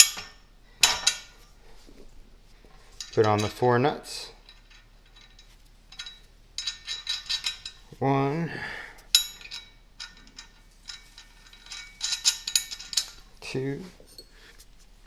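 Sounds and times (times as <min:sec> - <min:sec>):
nuts and bolts clinking: 0:00.0 - 0:08.2, 0:09.0 - 0:15.0.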